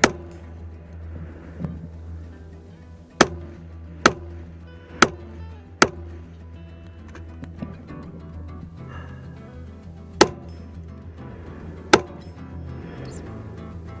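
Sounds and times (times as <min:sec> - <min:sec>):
background music with bass: 0:00.0 - 0:14.0.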